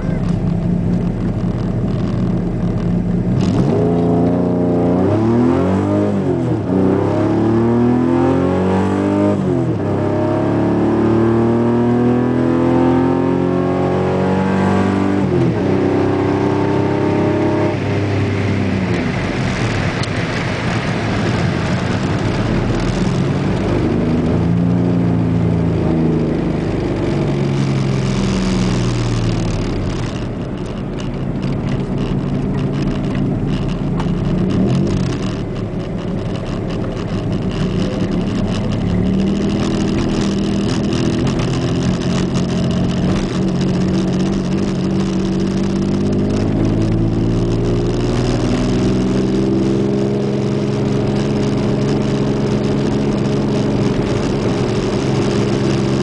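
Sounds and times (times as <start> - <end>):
car engine heard from cabin: 0.0 - 56.0.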